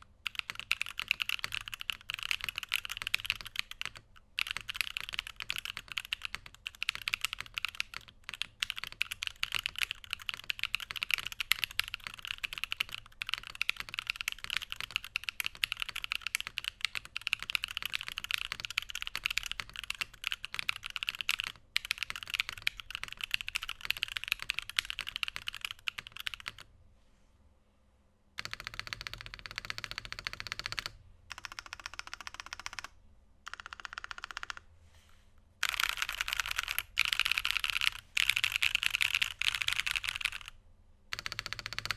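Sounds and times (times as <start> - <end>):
keyboard typing: 0.0 - 26.7, 28.4 - 34.7, 35.6 - 41.9.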